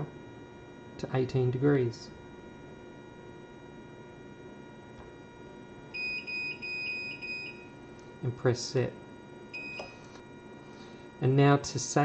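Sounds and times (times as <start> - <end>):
water chiller humming: 0.0 - 12.0.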